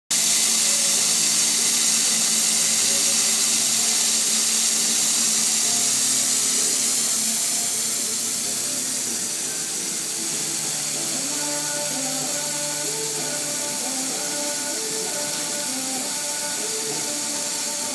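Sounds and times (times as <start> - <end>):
laser cutter hissing and whining: 0.1 - 17.9.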